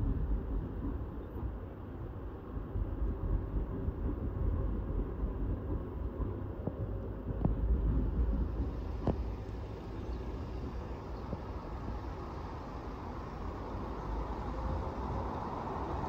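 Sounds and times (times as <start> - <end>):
low road traffic rumble: 0.0 - 16.0
wind buffeting microphone: 0.0 - 16.0.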